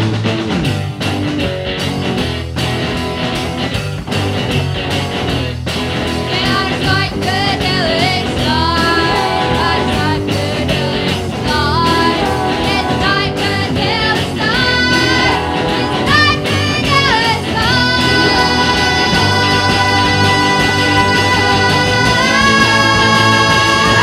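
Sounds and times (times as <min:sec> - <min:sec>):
psychedelic rock song: 0:00.0 - 0:24.0.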